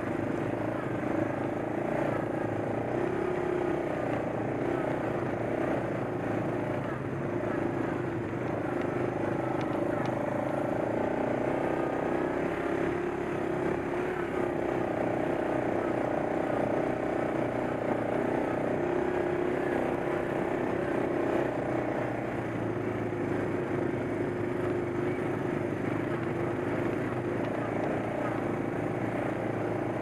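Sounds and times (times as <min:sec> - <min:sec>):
atv engine droning: 0:00.0 - 0:30.0.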